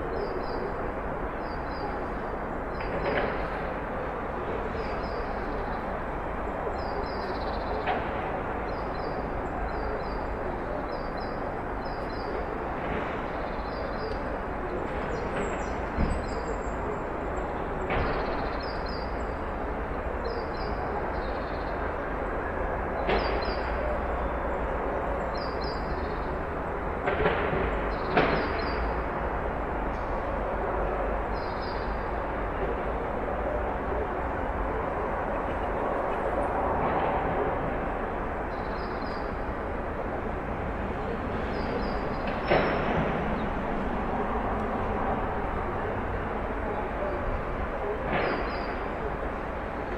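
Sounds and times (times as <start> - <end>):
distant background noise: 0.0 - 49.9
steady rumbling background noise: 0.0 - 49.9.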